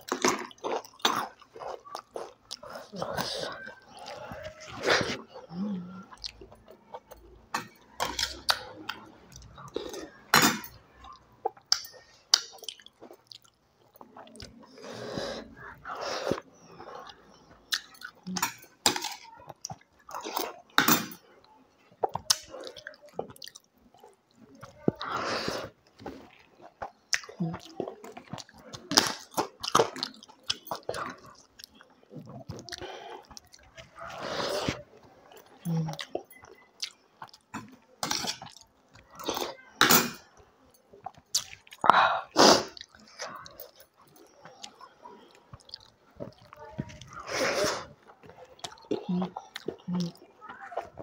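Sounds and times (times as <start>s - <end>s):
person chewing food: 0.0s - 51.0s.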